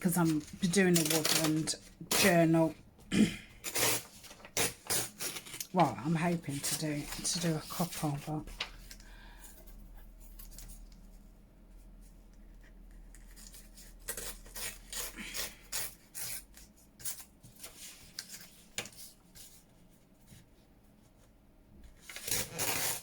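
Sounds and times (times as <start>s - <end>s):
paper rustling and scraping: 0.1s - 2.7s, 3.6s - 23.0s.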